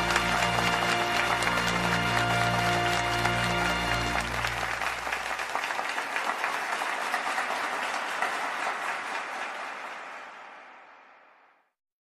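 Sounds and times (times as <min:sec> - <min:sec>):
crowd applauding: 0:00.0 - 0:11.6.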